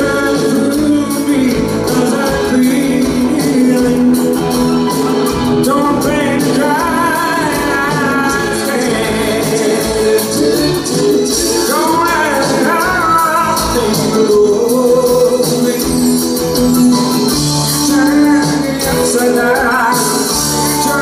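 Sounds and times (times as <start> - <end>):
man singing: 0.0 - 21.0
pop band playing live: 0.0 - 21.0.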